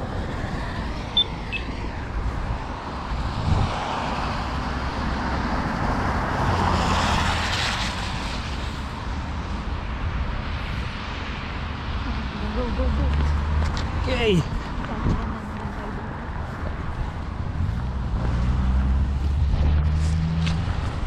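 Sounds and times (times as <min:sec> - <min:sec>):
car passing by: 0:00.0 - 0:09.8, 0:12.0 - 0:21.0
low rumble of road noise: 0:00.0 - 0:21.0.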